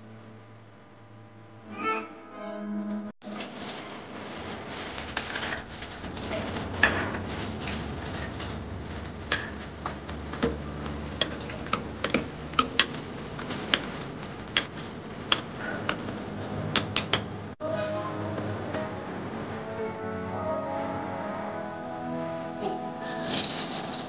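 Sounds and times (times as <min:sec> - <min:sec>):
steady low hiss: 0:03.3 - 0:24.0.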